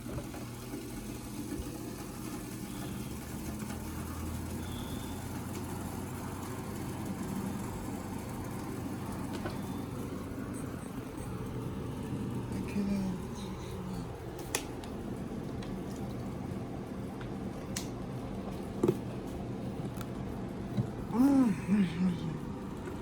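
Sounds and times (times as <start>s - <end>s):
air conditioner humming: 0.0s - 23.0s.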